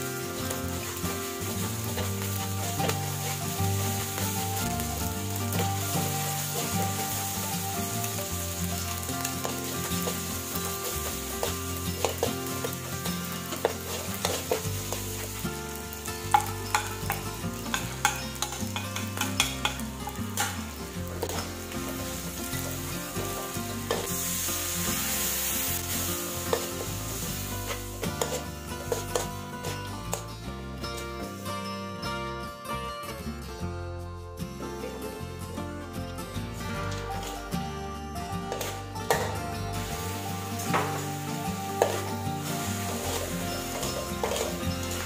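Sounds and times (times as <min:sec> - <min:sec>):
metal spatula scraping a wok: 0:00.0 - 0:29.8, 0:38.5 - 0:45.0
paste sizzling in a wok: 0:00.0 - 0:30.4, 0:37.0 - 0:37.6, 0:38.2 - 0:45.0.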